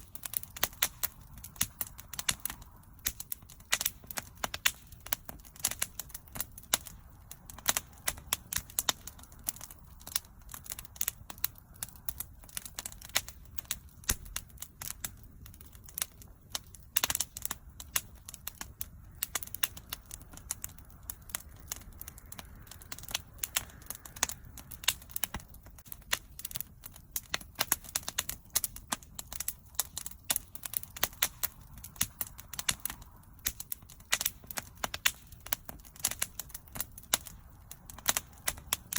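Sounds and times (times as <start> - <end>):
burning wood popping and snapping: 0.0 - 38.9
low rumble of flames: 0.0 - 38.9.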